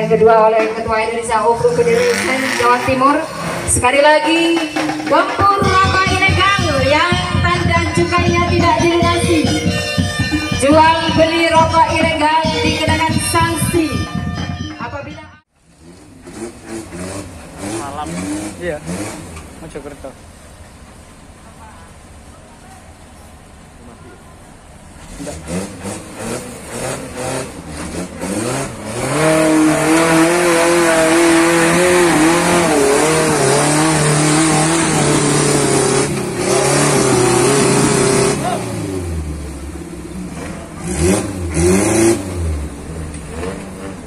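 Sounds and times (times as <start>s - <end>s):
off-road vehicle engine revving: 0.0s - 22.4s, 23.0s - 44.0s.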